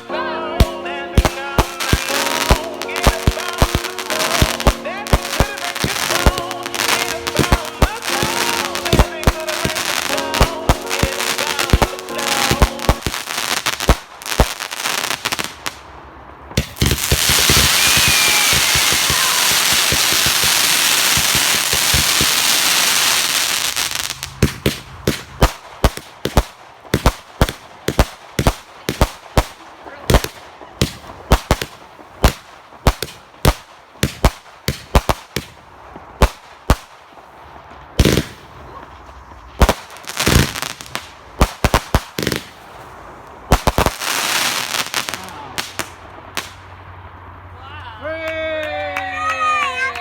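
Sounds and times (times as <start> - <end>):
fireworks bangs: 0.0 - 46.8
fireworks crackling: 0.0 - 46.8.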